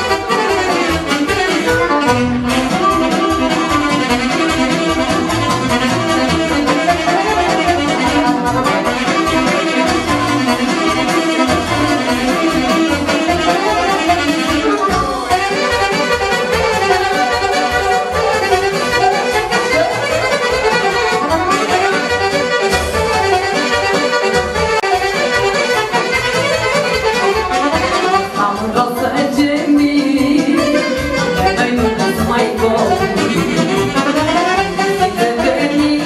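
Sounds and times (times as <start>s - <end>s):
live band playing folk dance tune: 0.0s - 36.0s
saxophone: 0.0s - 36.0s.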